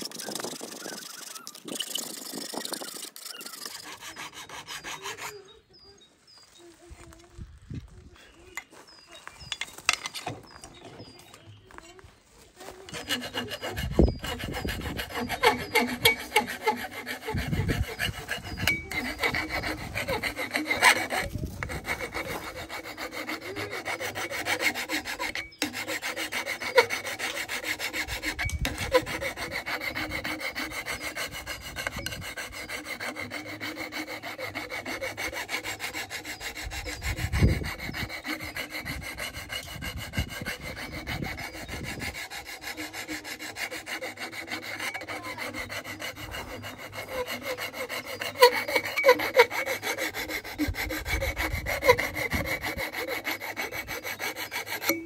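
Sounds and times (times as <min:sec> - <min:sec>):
wood being rasped by hand: 0:00.0 - 0:05.9, 0:08.4 - 0:55.0.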